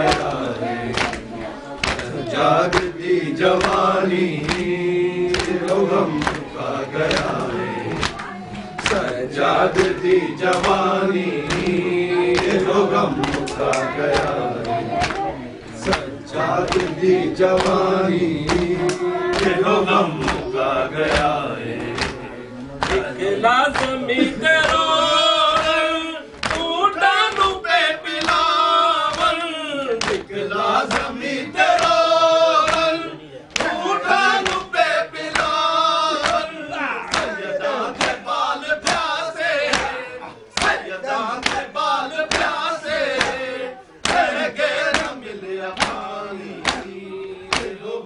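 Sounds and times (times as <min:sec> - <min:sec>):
men chanting together: 0:00.0 - 0:48.0.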